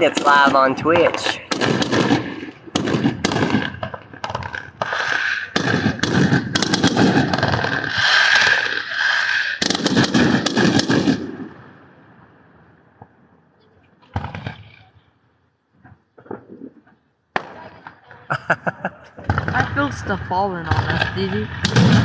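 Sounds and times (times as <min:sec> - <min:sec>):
fireworks bangs and crackles: 0:00.0 - 0:12.3, 0:14.1 - 0:14.9, 0:16.2 - 0:22.0.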